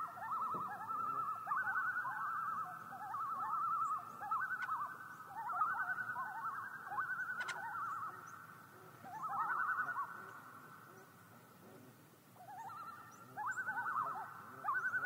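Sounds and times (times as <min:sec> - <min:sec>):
loons giving tremolo calls: 0:00.0 - 0:15.0.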